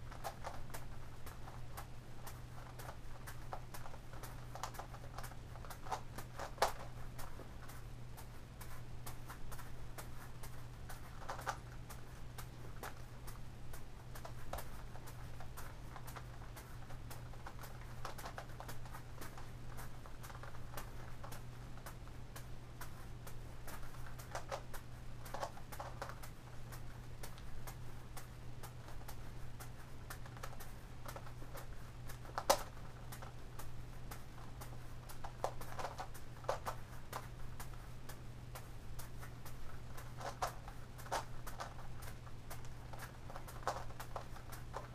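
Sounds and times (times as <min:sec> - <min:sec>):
juggling balls caught in hands: 0:00.0 - 0:44.9.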